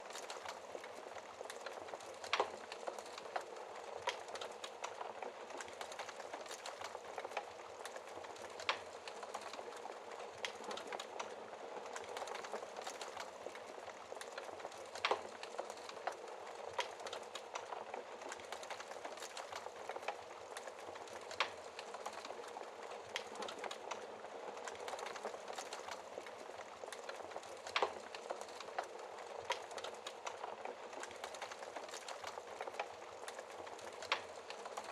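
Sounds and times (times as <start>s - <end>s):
fire crackling in fireplace: 0.0s - 34.9s.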